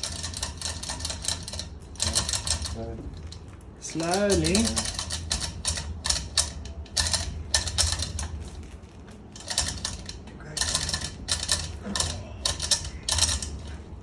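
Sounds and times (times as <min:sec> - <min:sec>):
chain hoist clicking and rattling: 0:00.0 - 0:14.0.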